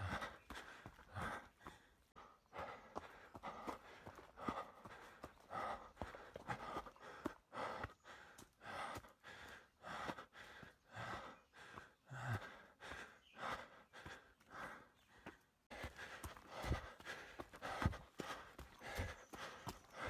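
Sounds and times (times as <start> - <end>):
faint footsteps on trail: 0.0 - 20.0
heavy breathing: 0.0 - 20.0.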